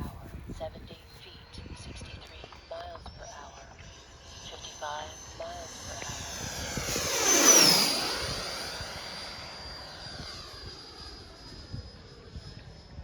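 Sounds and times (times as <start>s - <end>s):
model jet whine passing: 1.4s - 13.0s.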